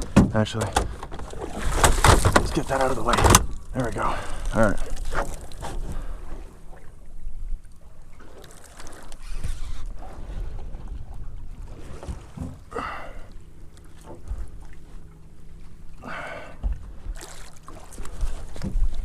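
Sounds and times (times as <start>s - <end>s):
water sloshing against boat hull: 0.0s - 19.0s.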